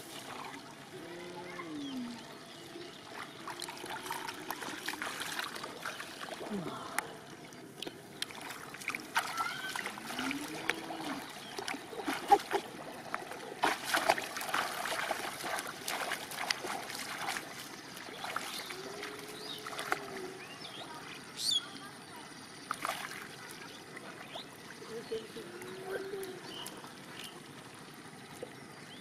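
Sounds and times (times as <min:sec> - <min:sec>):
shallow water splashing: 0:03.0 - 0:20.5, 0:22.7 - 0:28.6.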